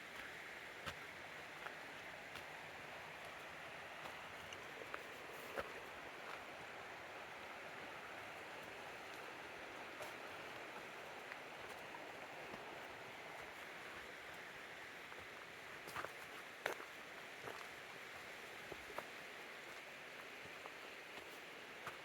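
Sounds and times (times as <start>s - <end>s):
flowing river water: 0.0s - 22.0s.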